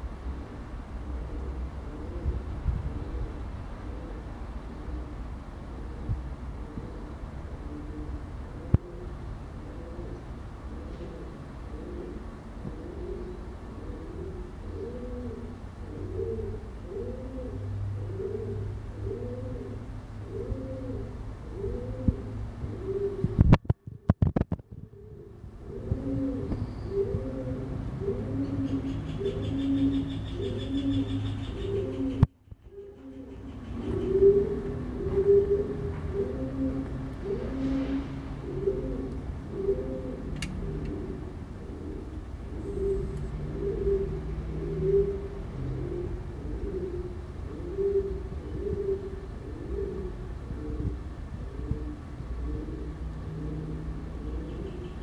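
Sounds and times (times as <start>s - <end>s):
pigeon cooing: 0.3s - 55.0s.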